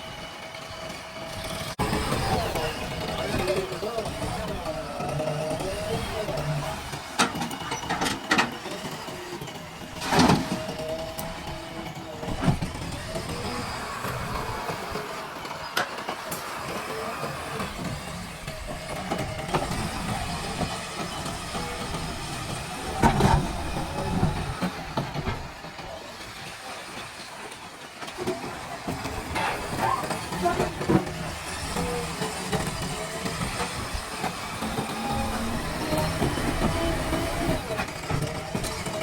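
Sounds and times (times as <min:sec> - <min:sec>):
backhoe engine running: 0:00.0 - 0:39.0.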